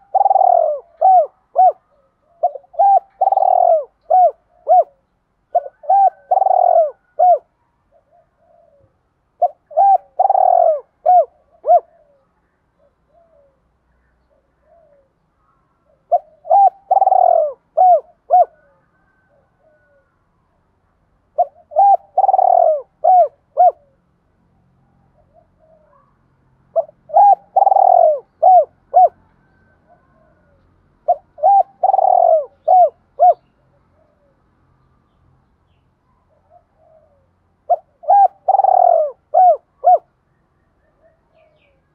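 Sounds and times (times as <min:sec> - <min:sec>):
dove cooing: 0:00.0 - 0:13.6, 0:14.2 - 0:15.2, 0:15.9 - 0:20.1, 0:21.3 - 0:24.0, 0:24.8 - 0:26.1, 0:26.7 - 0:34.4, 0:36.3 - 0:40.2.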